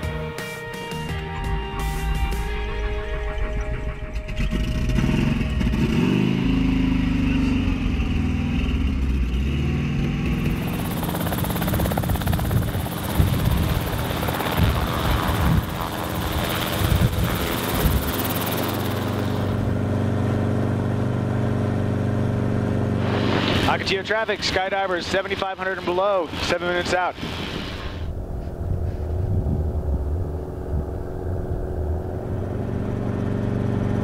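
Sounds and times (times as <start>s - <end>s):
helicopter engine and rotor: 1.2s - 34.0s.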